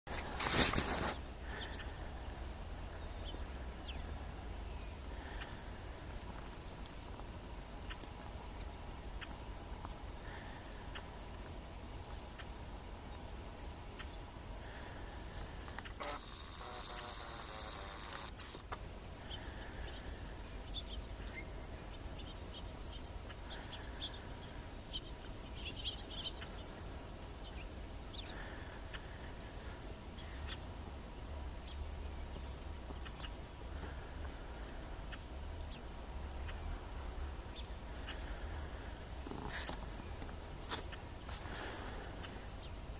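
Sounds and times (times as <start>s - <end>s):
small birds chirping: 0.1s - 42.9s
low steady rumble: 1.2s - 42.9s
songbirds chip calls: 1.4s - 42.9s.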